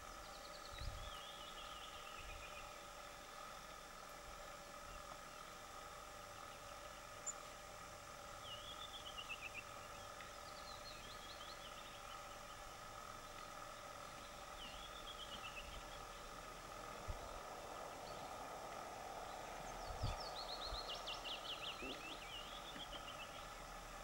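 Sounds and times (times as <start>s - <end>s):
faint songbird song: 0.0s - 24.0s
steady background hum: 0.0s - 24.0s.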